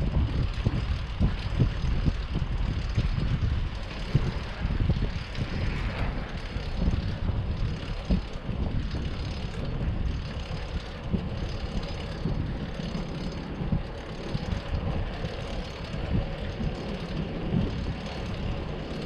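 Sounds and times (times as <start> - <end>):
city street traffic rumble: 0.0 - 19.0
wind buffeting microphone: 0.0 - 19.0.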